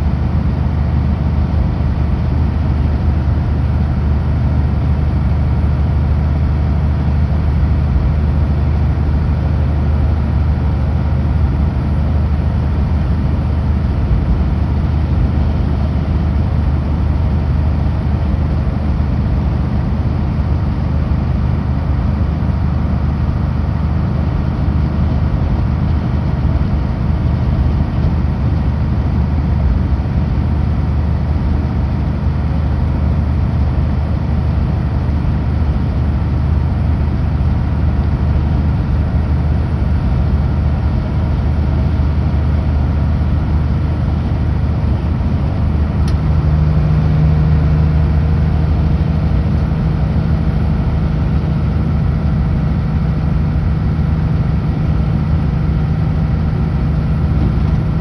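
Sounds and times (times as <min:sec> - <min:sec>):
road noise: 0:00.0 - 0:58.0
truck diesel engine running: 0:00.0 - 0:58.0.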